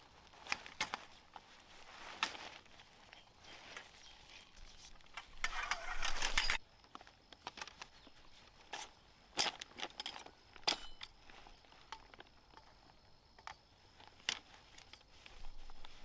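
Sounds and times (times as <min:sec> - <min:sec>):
rustling: 0:00.0 - 0:12.9, 0:13.7 - 0:16.0.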